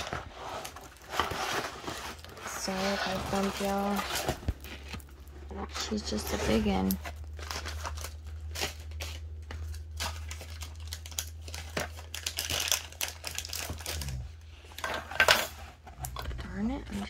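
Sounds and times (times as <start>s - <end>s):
low electrical hum: 0.0s - 17.0s
plastic crinkling and rustling: 0.0s - 17.0s.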